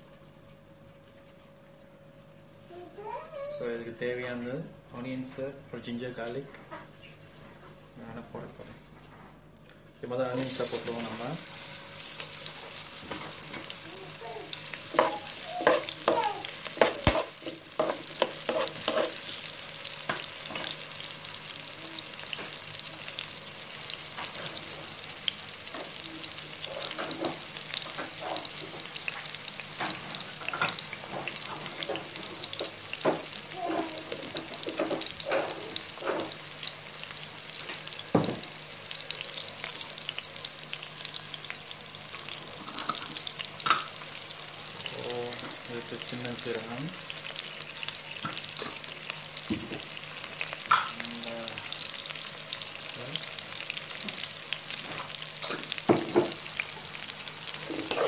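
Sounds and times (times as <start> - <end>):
onions sizzling in oil: 10.1 - 58.0.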